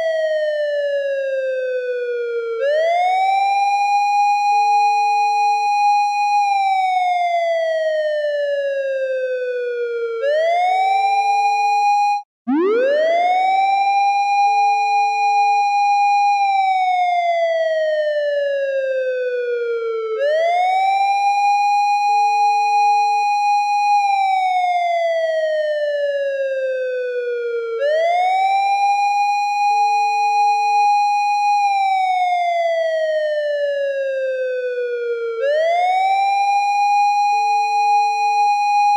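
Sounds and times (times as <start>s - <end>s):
police car siren wailing: 0.0s - 38.9s.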